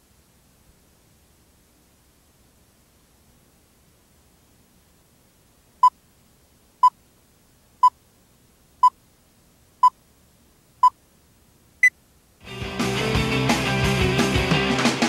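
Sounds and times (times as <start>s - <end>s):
faint hiss: 0.0s - 12.5s.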